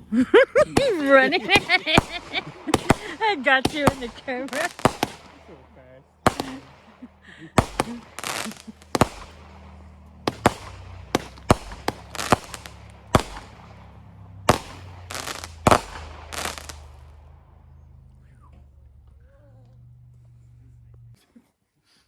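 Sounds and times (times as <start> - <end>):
fireworks bangs: 0.0 - 20.2
fireworks crackling: 0.0 - 20.2.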